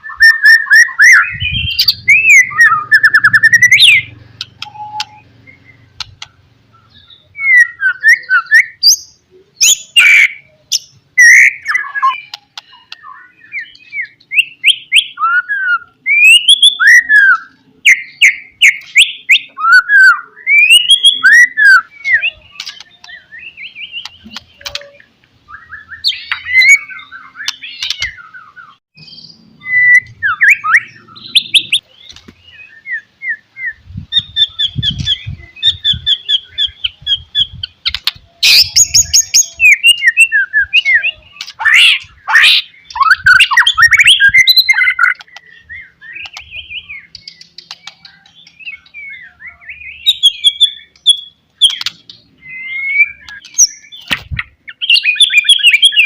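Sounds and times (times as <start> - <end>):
bird singing whistled phrases: 0.0 - 6.0, 6.8 - 31.8, 32.4 - 56.0.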